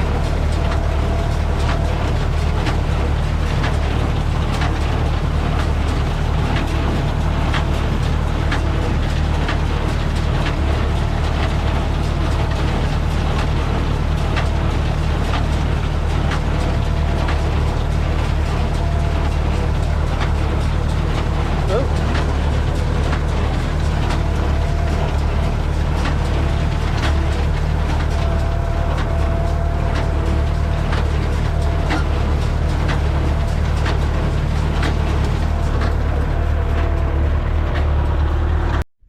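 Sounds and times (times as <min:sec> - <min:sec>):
tractor diesel engine drone: 0:00.0 - 0:38.9.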